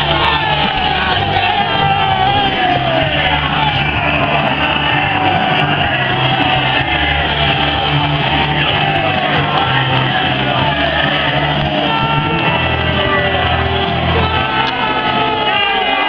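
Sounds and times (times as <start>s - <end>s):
football crowd singing: 0.0s - 16.0s.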